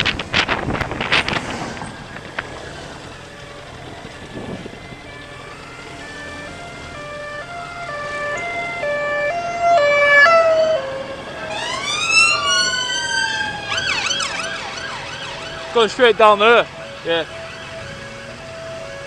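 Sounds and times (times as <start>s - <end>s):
police siren: 0.4s - 19.0s.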